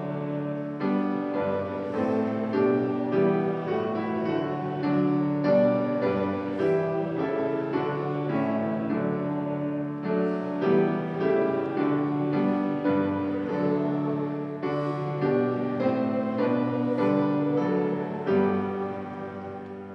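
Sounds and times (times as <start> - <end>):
slow keyboard chords: 0.0 - 19.9.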